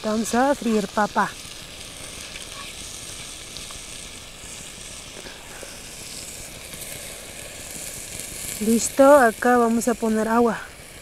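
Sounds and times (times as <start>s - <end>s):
oil sizzling in pans: 0.0s - 11.0s.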